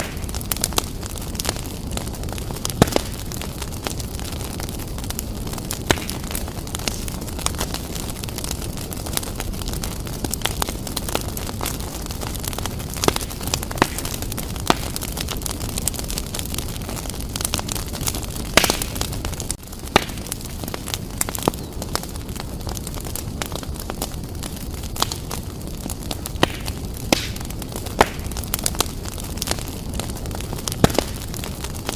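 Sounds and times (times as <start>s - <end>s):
fire crackles and pops: 0.0s - 31.9s
low roar of flames: 0.0s - 31.9s.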